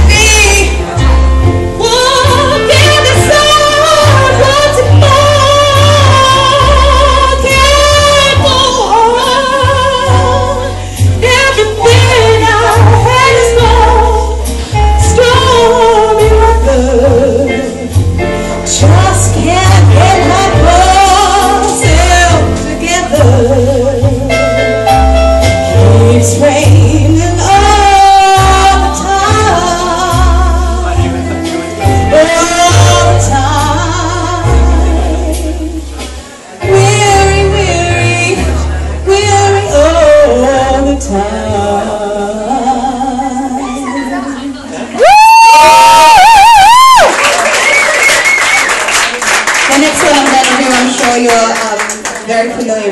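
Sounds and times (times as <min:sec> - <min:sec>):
woman singing with vibrato: 0:00.0 - 0:01.0, 0:01.7 - 0:24.4, 0:26.0 - 0:31.1, 0:32.1 - 0:35.9, 0:36.6 - 0:47.2
band with drums and bass: 0:00.0 - 0:41.6, 0:44.8 - 0:49.2.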